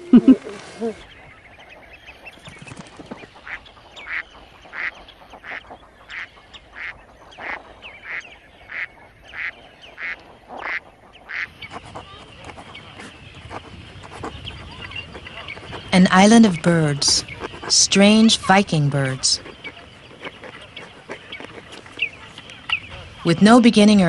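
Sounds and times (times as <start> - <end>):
eiders calling: 0.0 - 24.0.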